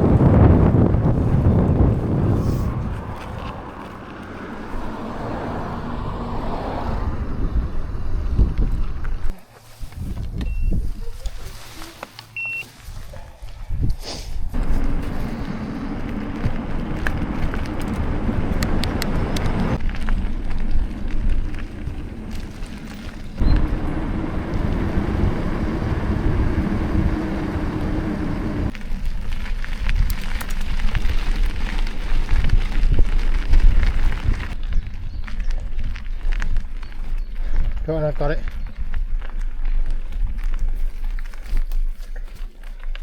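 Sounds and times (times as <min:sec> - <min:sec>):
wind rumbling on microphone: 0:00.0 - 0:11.8, 0:12.9 - 0:42.2.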